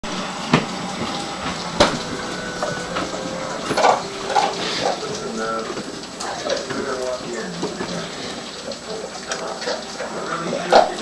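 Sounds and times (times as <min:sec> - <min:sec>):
steady hiss: 0:00.1 - 0:11.0.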